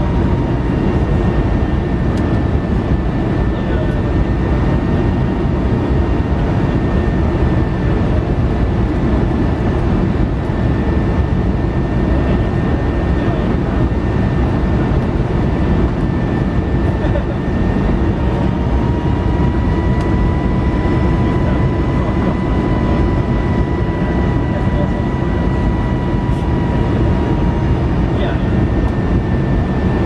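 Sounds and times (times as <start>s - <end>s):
jet engine and airflow rumble: 0.0s - 30.0s
thin engine whine: 0.0s - 30.0s.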